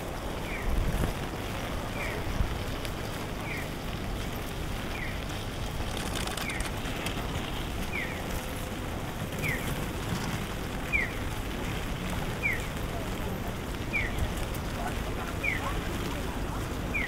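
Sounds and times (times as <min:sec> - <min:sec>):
traffic on wet streets: 0:00.0 - 0:17.0.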